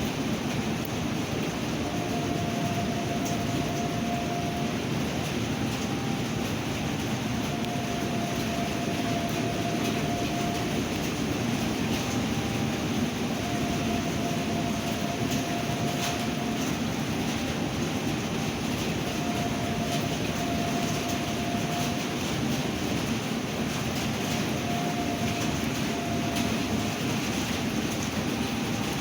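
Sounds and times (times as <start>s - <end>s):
rain: 0.0s - 29.0s
wind: 0.0s - 29.0s.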